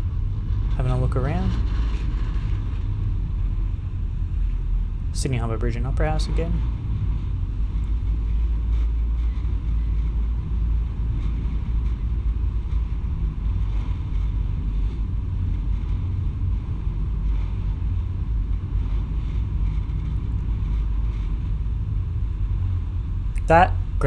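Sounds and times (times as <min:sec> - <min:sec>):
ship engines rumbling: 0:00.0 - 0:24.0
wind on microphone: 0:00.0 - 0:24.0.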